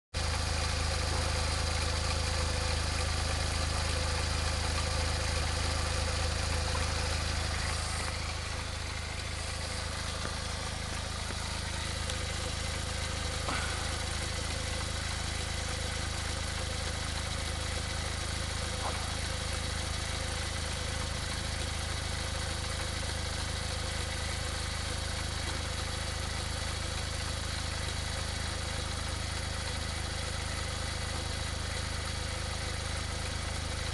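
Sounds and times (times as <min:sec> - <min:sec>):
small car engine idling: 0:00.2 - 0:33.9.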